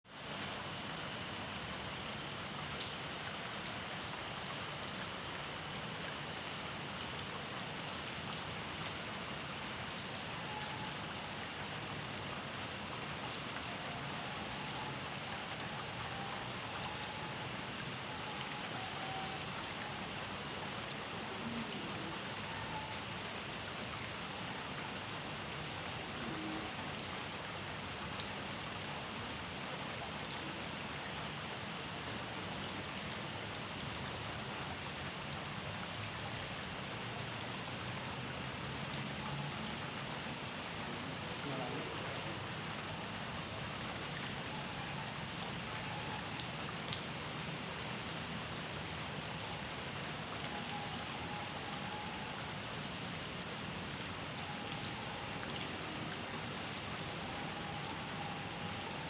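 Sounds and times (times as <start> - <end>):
rain falling on a pond: 0.0 - 59.0.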